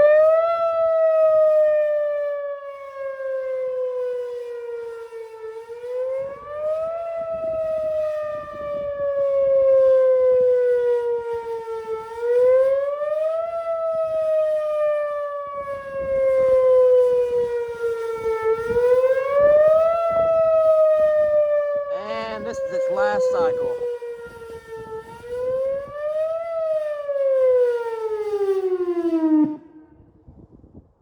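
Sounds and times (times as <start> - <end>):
tornado siren wailing: 0.0 - 30.1.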